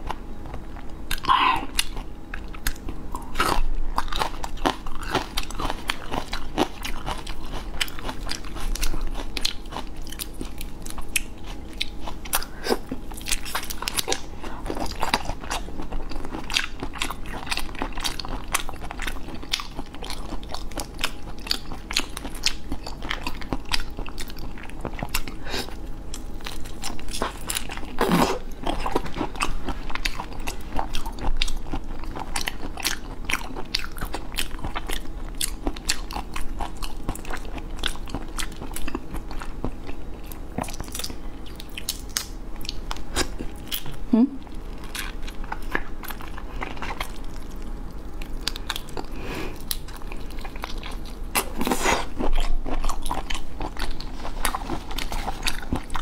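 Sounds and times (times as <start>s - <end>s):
chewing prawns wet crunches: 1.1s - 25.4s, 26.1s - 44.0s, 44.7s - 56.0s.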